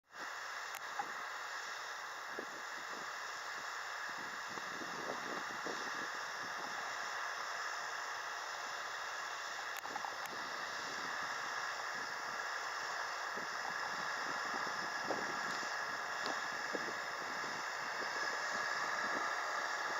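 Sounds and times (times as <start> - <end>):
tractor engine running: 0.2 - 19.9.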